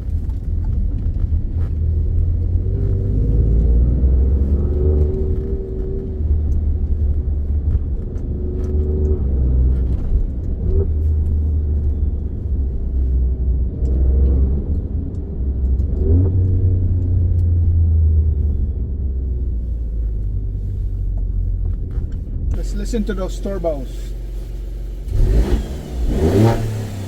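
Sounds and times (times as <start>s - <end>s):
car engine rumbling: 0.0s - 27.0s.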